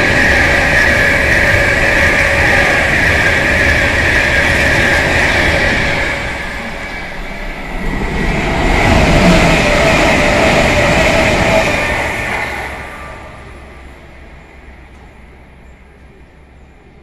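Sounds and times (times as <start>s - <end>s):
electric trains passing: 0.0s - 17.0s
train whine: 0.0s - 17.0s.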